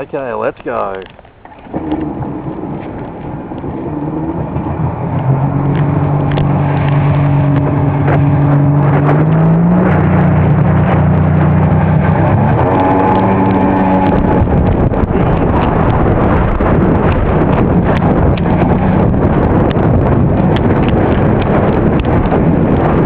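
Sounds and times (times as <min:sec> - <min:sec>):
jet ski engine: 0:00.0 - 0:23.0
rush of water and wind: 0:00.0 - 0:23.0.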